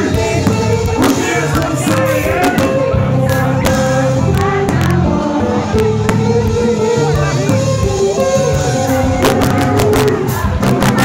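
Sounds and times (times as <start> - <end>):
live band playing: 0.0 - 11.0
person singing: 0.0 - 11.0.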